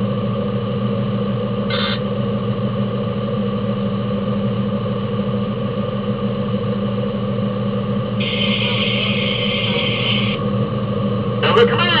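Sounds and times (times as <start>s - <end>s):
fire engine droning: 0.0s - 12.0s.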